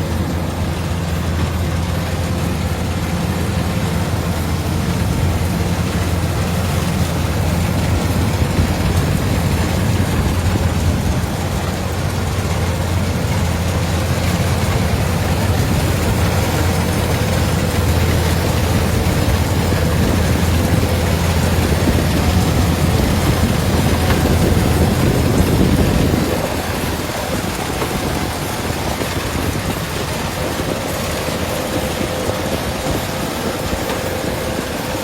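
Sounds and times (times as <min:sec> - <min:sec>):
combine harvester drone: 0:00.0 - 0:35.0.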